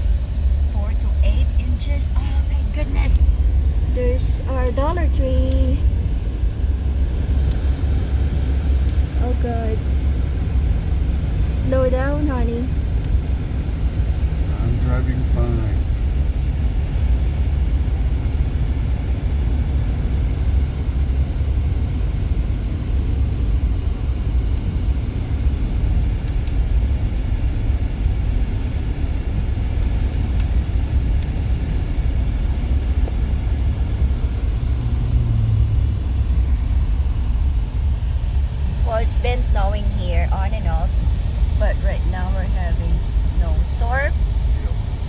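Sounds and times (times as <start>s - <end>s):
car engine and tyres rumbling: 0.0s - 45.0s.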